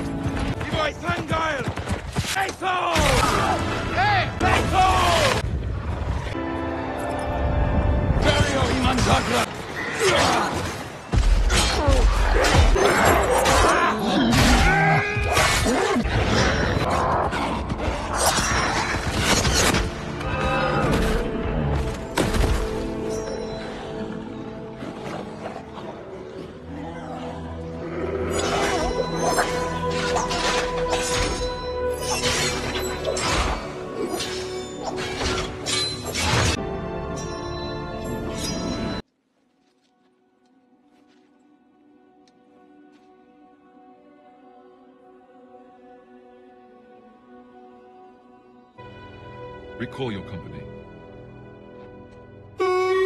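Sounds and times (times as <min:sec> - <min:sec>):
film music: 0:00.0 - 0:53.0.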